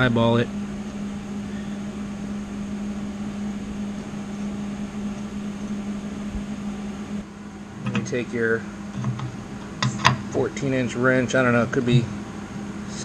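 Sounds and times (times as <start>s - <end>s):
small machine humming: 0.0s - 13.0s.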